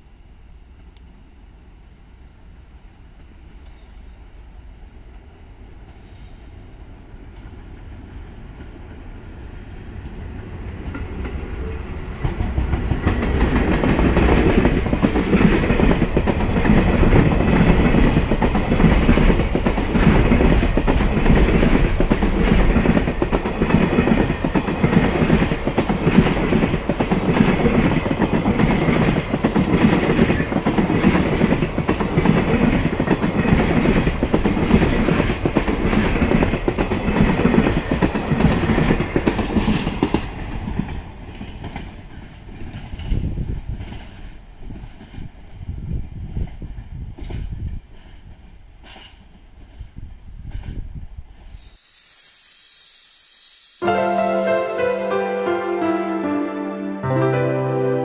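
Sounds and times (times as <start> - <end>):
freight train passing: 4.6 - 45.5, 51.1 - 58.0.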